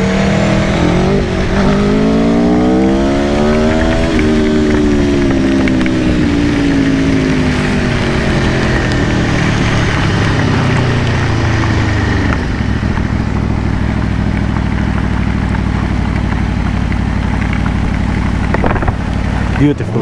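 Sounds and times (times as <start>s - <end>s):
motorcycle engine slowing: 0.0s - 20.0s.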